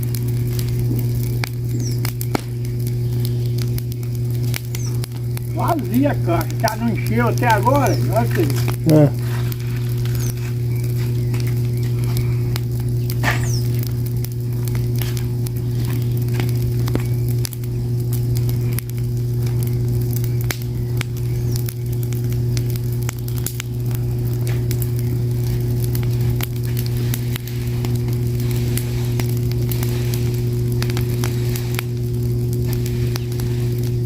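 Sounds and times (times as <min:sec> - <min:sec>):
fire crackling and popping: 0:00.0 - 0:34.0
steady low hum: 0:00.0 - 0:34.0.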